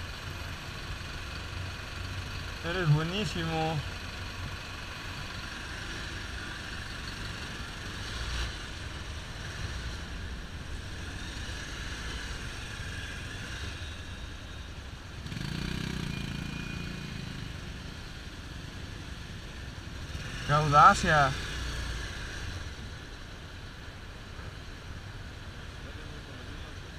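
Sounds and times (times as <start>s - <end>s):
road and traffic noise: 0.0s - 26.9s.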